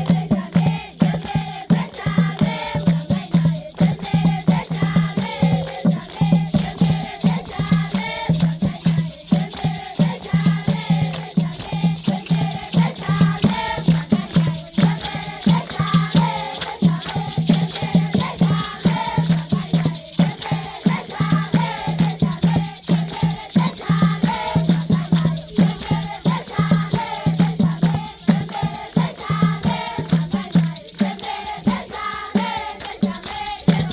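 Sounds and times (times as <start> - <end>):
children singing: 0.0 - 33.9
shaken rattles: 0.0 - 33.9.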